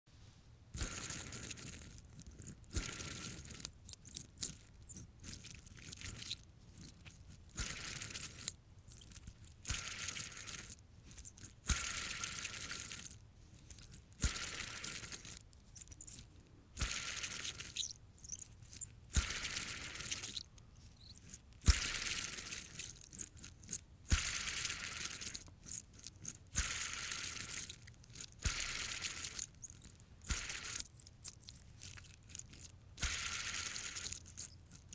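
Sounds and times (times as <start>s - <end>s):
fidget spinner click and squeaky whir: 0.8s - 34.9s.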